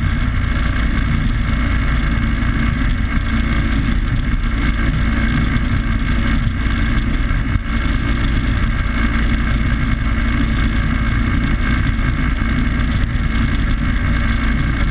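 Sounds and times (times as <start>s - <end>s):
boat engine: 0.0s - 14.9s
wind on microphone: 0.0s - 14.9s.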